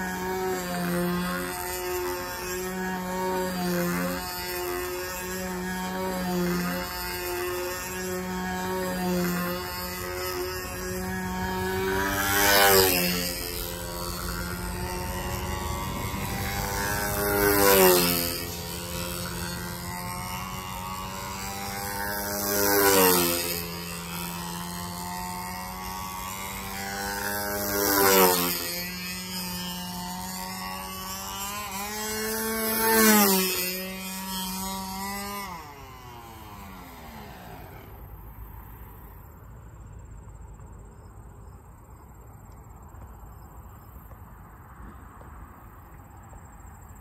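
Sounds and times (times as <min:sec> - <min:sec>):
model airplane motor fly-by: 0:00.0 - 0:47.0.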